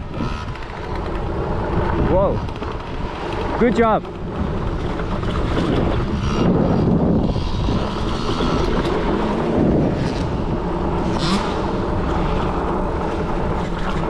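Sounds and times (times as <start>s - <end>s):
dirt bike engines revving: 0.0s - 14.0s
wind buffeting microphone: 0.0s - 14.0s.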